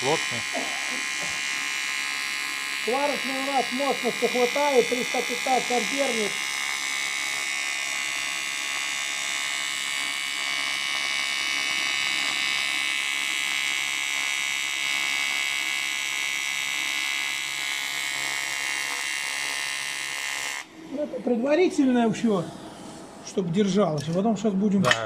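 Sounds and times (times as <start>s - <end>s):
welding arc buzzing: 0.0s - 20.8s.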